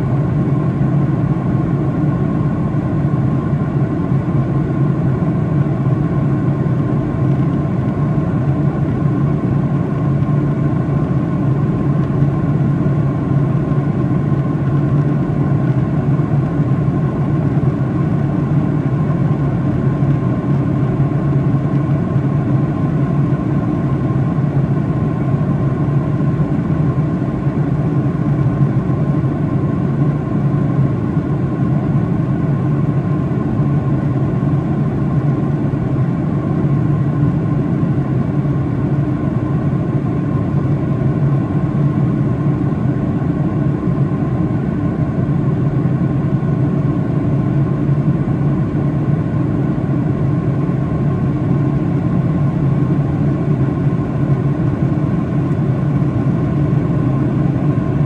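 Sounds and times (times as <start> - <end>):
airliner cabin drone: 0.0 - 58.0
faint steady whine: 0.0 - 58.0.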